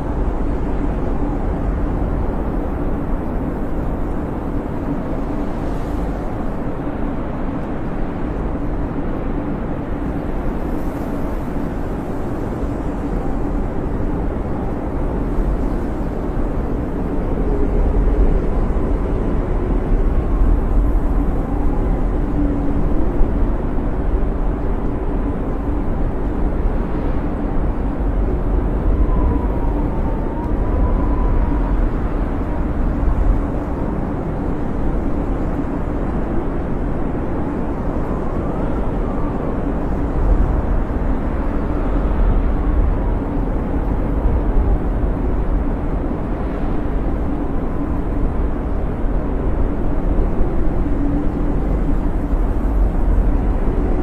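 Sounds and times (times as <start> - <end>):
blizzard wind rumbling: 0.0 - 54.0
whistling wind howls: 0.0 - 54.0.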